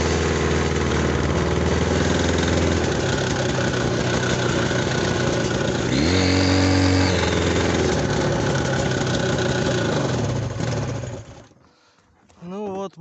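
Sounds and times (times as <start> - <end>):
snowmobile engine idling and revving: 0.0 - 11.9.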